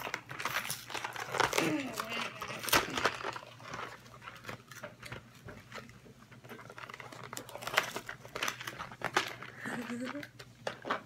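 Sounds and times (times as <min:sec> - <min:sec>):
cardboard box crinkling and clicking: 0:00.0 - 0:11.0.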